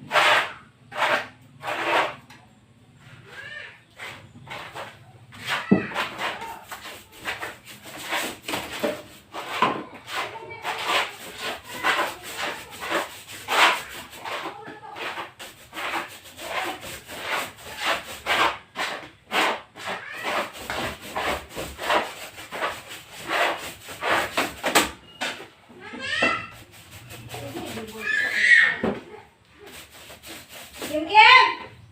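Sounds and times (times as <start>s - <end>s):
scrubbing strokes on plywood: 0.0s - 2.2s, 3.2s - 24.9s, 26.0s - 28.8s, 29.5s - 31.7s.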